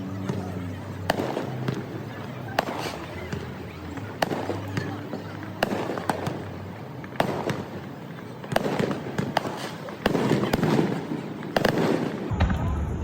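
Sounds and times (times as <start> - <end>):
fireworks bangs: 0.0 - 13.0
fireworks crackling and rumble: 0.0 - 13.0.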